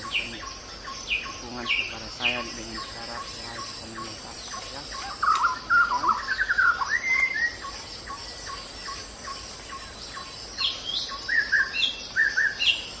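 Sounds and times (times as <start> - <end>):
loud high bird calls: 0.0 - 13.0.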